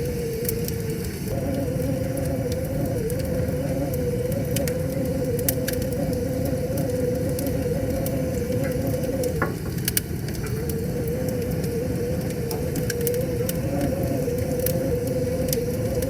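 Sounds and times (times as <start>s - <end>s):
wavering hum: 0.0s - 16.0s
wood fire crackling: 0.0s - 16.0s.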